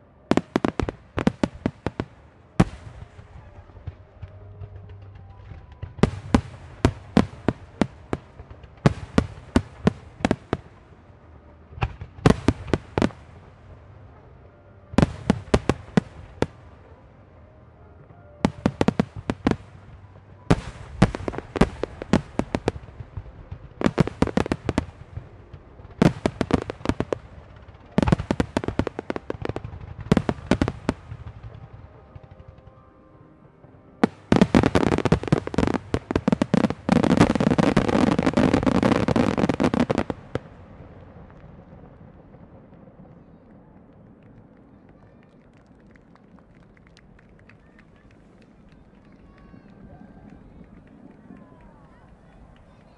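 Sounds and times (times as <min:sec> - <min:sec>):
fireworks volleys: 0:00.0 - 0:52.9.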